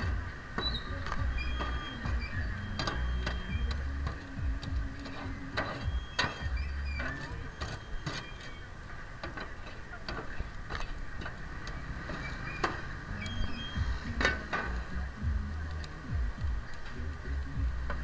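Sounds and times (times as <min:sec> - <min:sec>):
background voices: 0:00.0 - 0:18.0.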